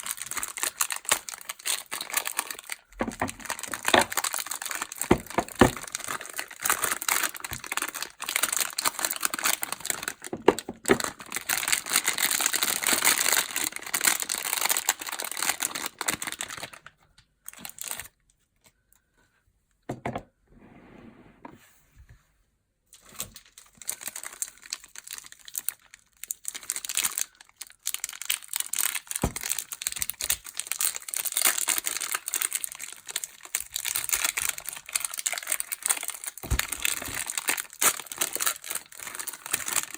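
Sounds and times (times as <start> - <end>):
packaging crinkling: 0.0 - 18.2, 23.0 - 39.9.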